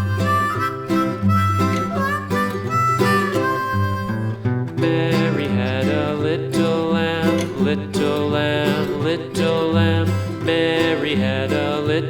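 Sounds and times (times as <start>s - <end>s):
acoustic guitar strumming: 0.0s - 12.0s
country music: 0.0s - 12.0s.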